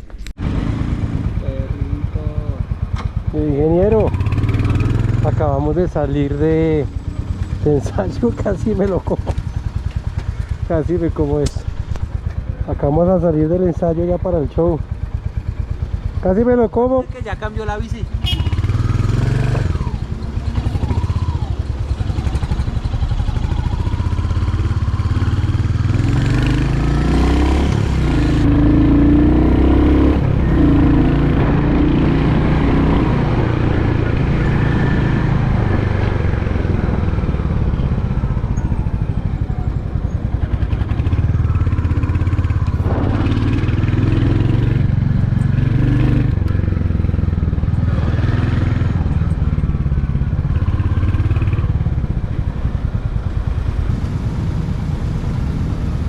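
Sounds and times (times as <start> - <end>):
motorcycle engine running: 0.4 - 56.0.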